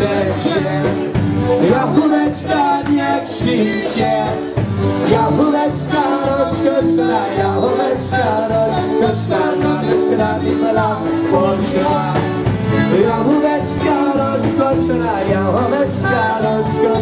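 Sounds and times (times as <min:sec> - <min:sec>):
accordion: 0:00.0 - 0:17.0
bouncing bass beat: 0:00.0 - 0:17.0
polka band playing: 0:00.0 - 0:17.0.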